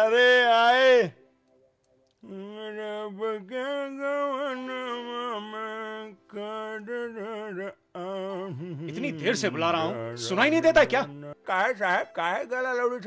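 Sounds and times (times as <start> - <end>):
man singing slow melody: 0.0 - 1.2, 2.2 - 13.0.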